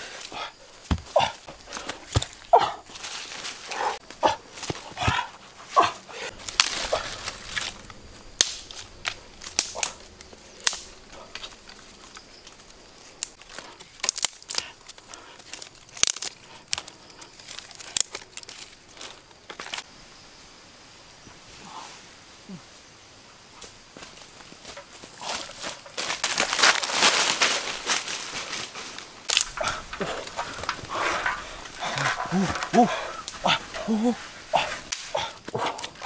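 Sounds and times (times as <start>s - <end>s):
dry leaves and twigs crackling: 0.0s - 20.0s, 21.3s - 36.0s.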